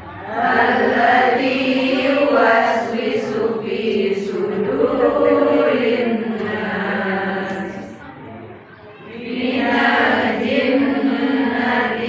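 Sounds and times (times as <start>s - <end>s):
group chanting in unison: 0.1s - 8.0s, 9.1s - 12.0s.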